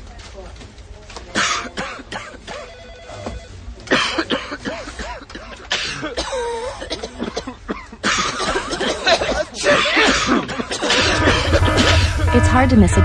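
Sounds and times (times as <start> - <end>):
people coughing: 1.3 - 12.5.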